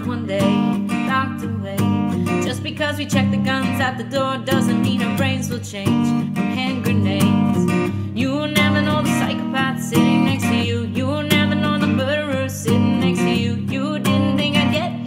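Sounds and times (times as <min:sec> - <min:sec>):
person singing: 0:00.0 - 0:15.0
strummed acoustic guitar: 0:00.0 - 0:15.0.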